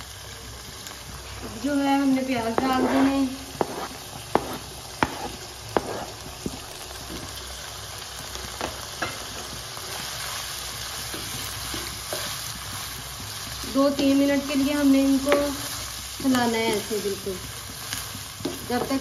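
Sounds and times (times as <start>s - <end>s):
chicken and onion sizzling: 0.0s - 19.0s.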